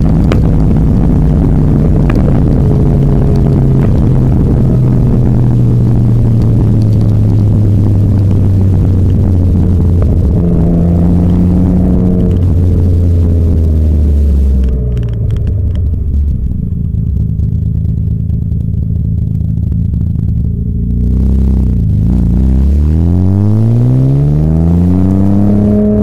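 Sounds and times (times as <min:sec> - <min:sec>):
car engine droning loudly: 0:00.0 - 0:26.0.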